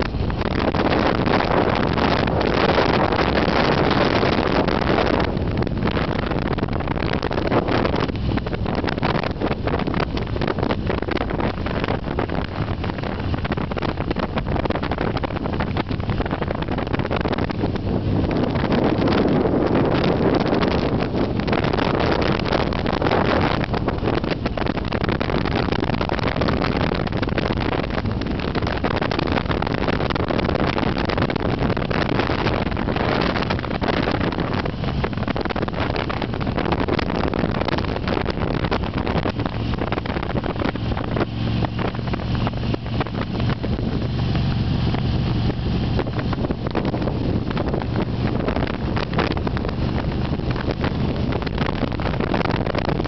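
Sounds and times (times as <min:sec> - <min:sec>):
vehicle engine and road noise: 0:00.0 - 0:53.0
wind buffeting microphone: 0:00.0 - 0:53.0.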